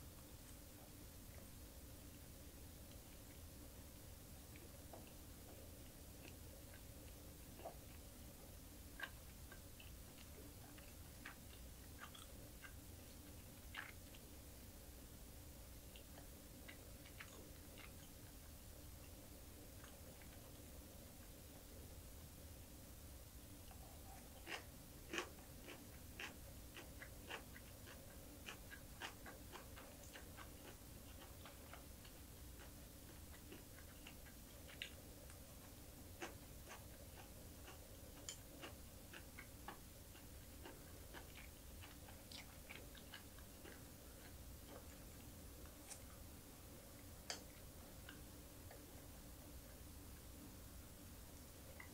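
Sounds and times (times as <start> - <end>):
crunchy chewing: 0.1 - 14.8, 15.7 - 21.8, 23.4 - 49.8.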